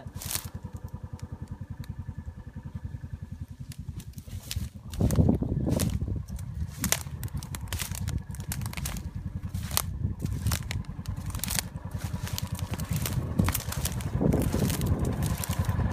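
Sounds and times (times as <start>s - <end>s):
footsteps crunching through dry grass: 0.0s - 0.7s, 3.5s - 15.9s
brittle stems scraping and crackling: 0.0s - 2.0s, 3.4s - 15.9s
low steady rumble: 0.0s - 15.9s.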